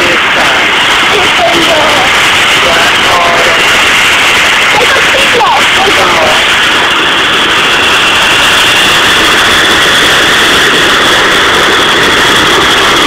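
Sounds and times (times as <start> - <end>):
high jet engine whine: 0.0 - 13.0
jet engines rushing: 0.0 - 13.0.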